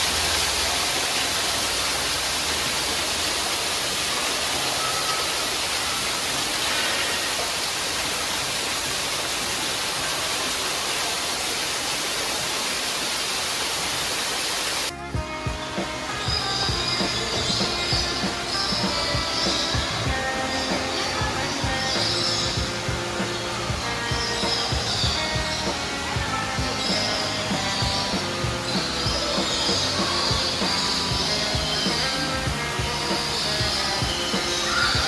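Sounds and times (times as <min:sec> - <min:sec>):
indoor waterfall rushing: 0:00.0 - 0:35.0.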